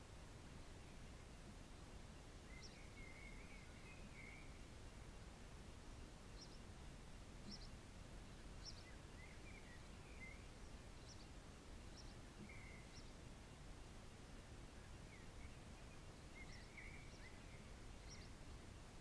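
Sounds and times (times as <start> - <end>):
faint birds chirping: 0.0 - 19.0
low background noise: 0.0 - 19.0.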